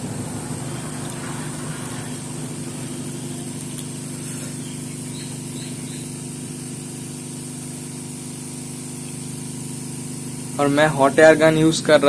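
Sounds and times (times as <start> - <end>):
hot air gun blowing: 0.0 - 12.0.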